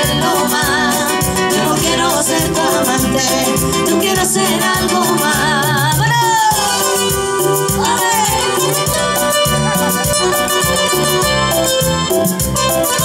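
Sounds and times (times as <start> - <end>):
acoustic guitar strummed: 0.0 - 13.0
bass and percussion rhythm: 0.0 - 13.0
keyboard backing: 0.0 - 13.0
latin pop music: 0.0 - 13.0.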